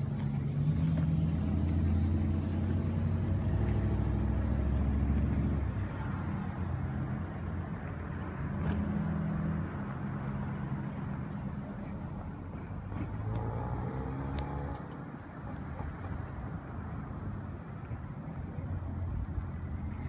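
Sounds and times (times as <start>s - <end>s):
car engine at low revs: 0.0s - 20.0s.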